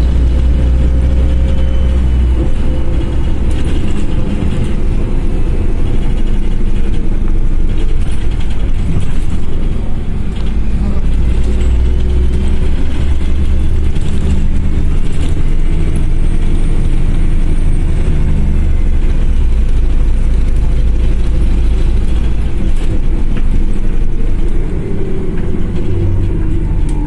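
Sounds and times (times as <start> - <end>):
bus engine drone: 0.0 - 27.0
road noise: 0.0 - 27.0.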